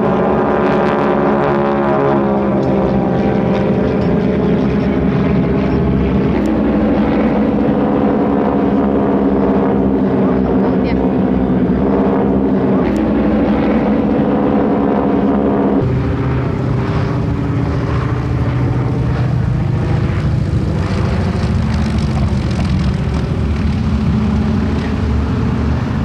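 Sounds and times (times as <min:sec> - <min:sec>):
propeller airplane engine droning: 0:00.0 - 0:26.0.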